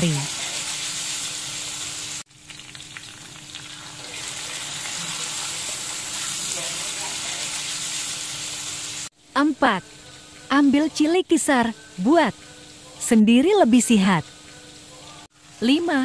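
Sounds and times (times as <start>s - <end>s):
meat sizzling in a pan: 0.0s - 13.0s, 13.6s - 16.0s.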